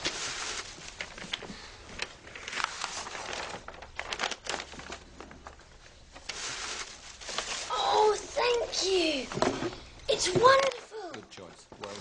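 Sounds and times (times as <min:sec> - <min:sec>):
paper and cardboard rustling: 0:00.0 - 0:12.0.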